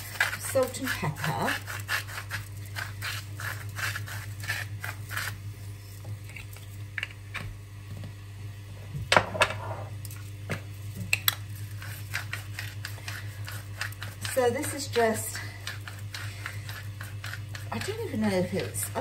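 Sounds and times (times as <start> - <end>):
pepper mill grinding: 0.0 - 7.4, 11.1 - 19.0
steady low hum: 0.0 - 19.0.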